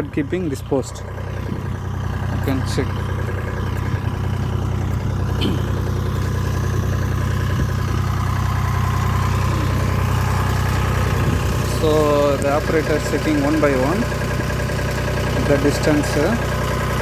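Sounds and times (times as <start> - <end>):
heavy machinery engine idling: 0.0 - 17.0.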